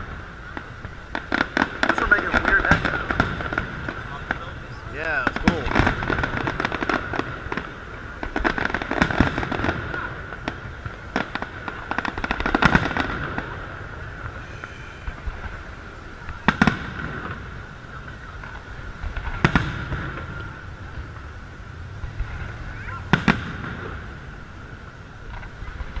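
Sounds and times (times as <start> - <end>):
fireworks bursting with bangs: 0.0 - 26.0
fireworks crackling: 0.0 - 26.0.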